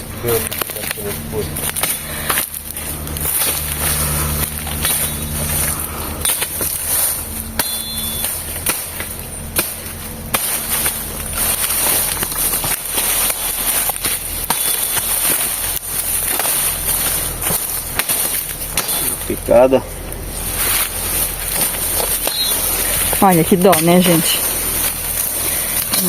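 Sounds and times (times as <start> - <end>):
dry fronds cracking and crunching: 0.0 - 26.0
foliage rustling: 0.0 - 26.0.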